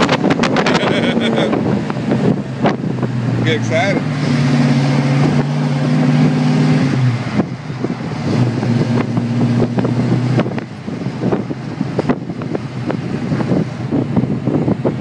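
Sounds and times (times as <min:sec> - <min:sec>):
car exhaust drone: 0:00.0 - 0:15.0
wind noise on microphone: 0:00.0 - 0:15.0.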